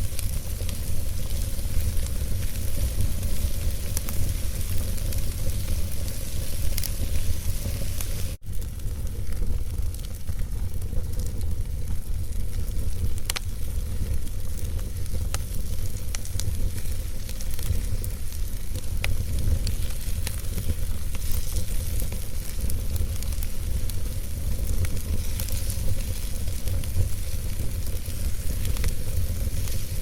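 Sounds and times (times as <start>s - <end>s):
sharp pops of burning logs: 0.0s - 30.0s
wood fire crackling: 0.0s - 30.0s.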